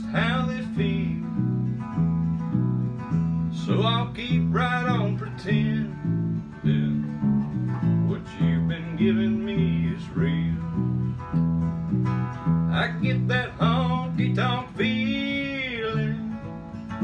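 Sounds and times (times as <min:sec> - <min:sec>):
country acoustic guitar and bass: 0:00.0 - 0:17.0.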